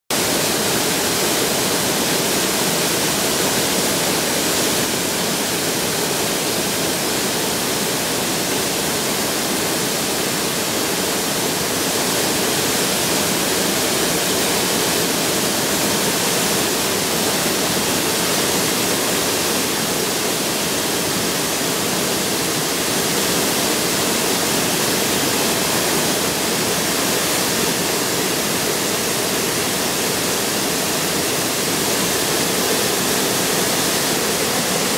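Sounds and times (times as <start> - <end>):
mountain water rushing: 0.2 - 34.9.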